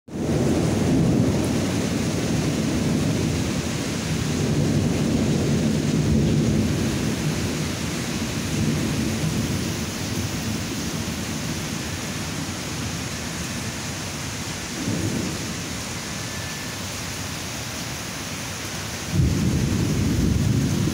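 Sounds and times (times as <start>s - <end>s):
thunder rumbling: 0.1s - 16.9s, 19.0s - 20.9s
rain hissing: 0.1s - 20.9s.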